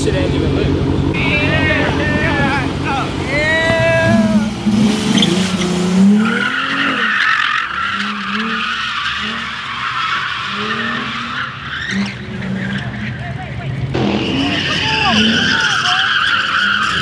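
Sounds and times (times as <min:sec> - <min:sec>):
car engine revving: 0:00.0 - 0:17.0
tyres squealing: 0:01.2 - 0:17.0.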